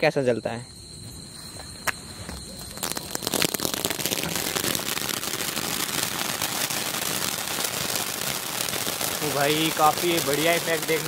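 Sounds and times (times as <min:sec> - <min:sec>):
firework crackling hiss: 0:00.8 - 0:11.0.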